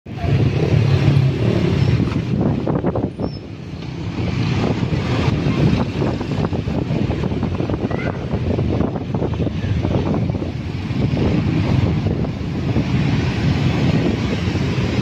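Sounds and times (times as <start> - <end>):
other motorbikes: 0.1 - 15.0
wind noise on microphone: 0.1 - 15.0.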